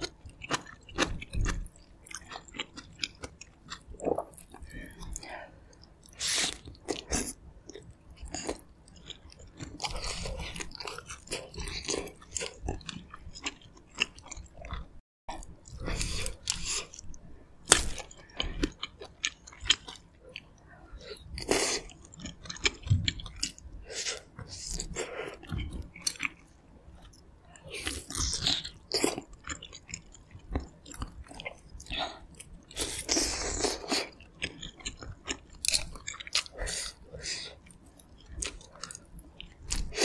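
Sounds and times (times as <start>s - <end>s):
close chewing with sharp clicks: 0.0s - 40.0s.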